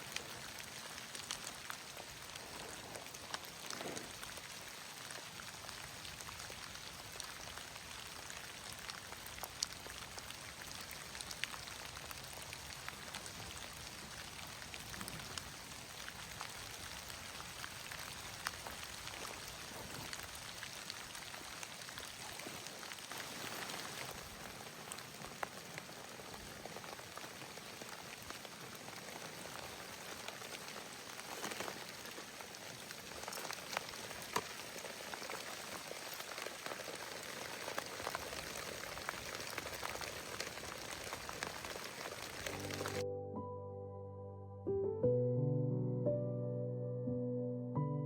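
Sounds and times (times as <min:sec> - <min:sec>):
rain pattering: 0:00.0 - 0:43.0.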